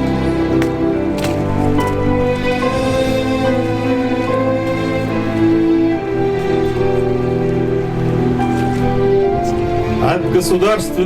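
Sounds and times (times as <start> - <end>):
slow sad instrumental music: 0.0 - 11.0.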